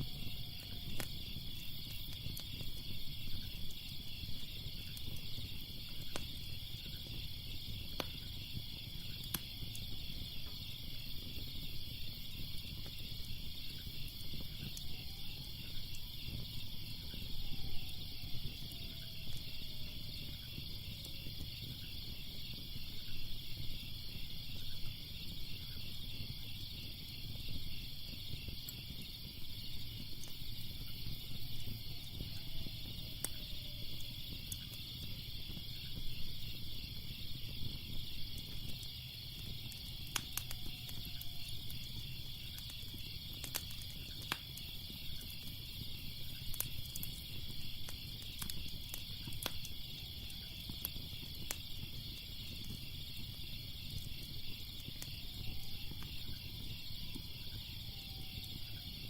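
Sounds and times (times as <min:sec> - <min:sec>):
crickets chirping: 0:00.0 - 0:59.0
fire crackling and popping: 0:00.0 - 0:59.0.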